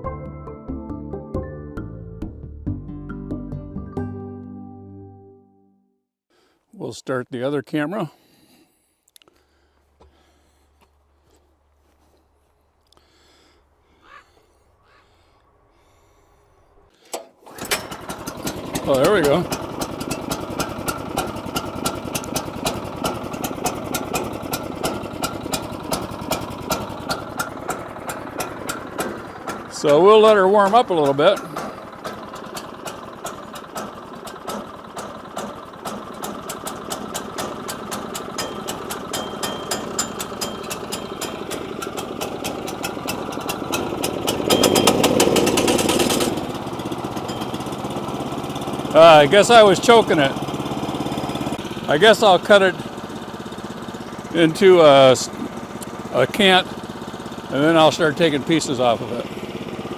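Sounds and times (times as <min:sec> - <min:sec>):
engine idling: 0:09.4 - 0:59.9.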